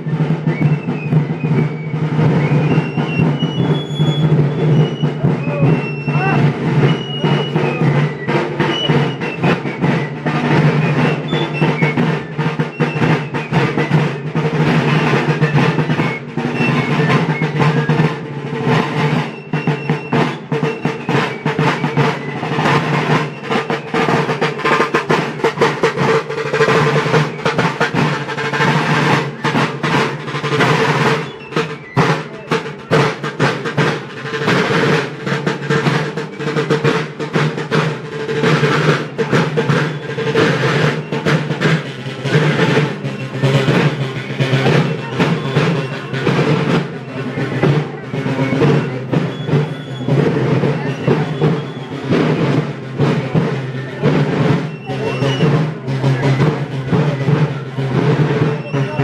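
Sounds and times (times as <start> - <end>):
field drums beating a march: 0.0 - 59.0.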